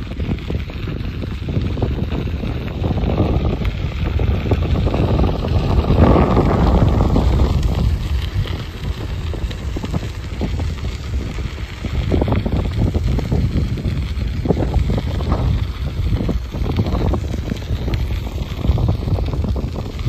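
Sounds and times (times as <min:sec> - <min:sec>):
bicycle knocking on bumps: 0:00.0 - 0:20.0
wind buffeting microphone: 0:00.0 - 0:20.0.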